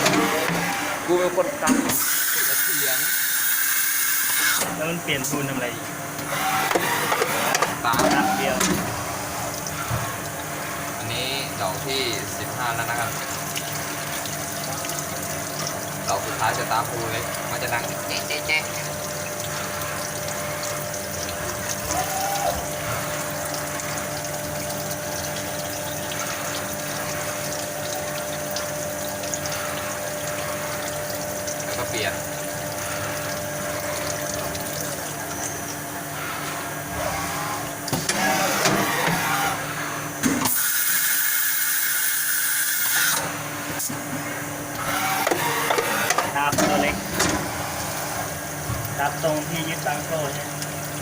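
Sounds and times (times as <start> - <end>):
milling machine cutting metal: 0.0 - 49.3
coolant gushing: 0.0 - 51.0.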